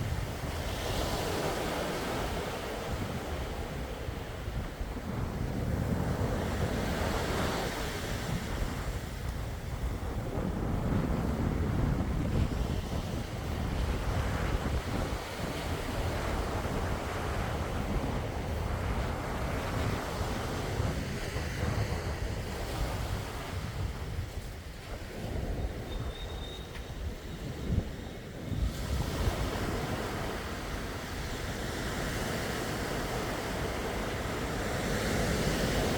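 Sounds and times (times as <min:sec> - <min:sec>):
sea waves washing ashore: 0:00.0 - 0:35.9
wind rumbling on microphone: 0:00.0 - 0:35.9.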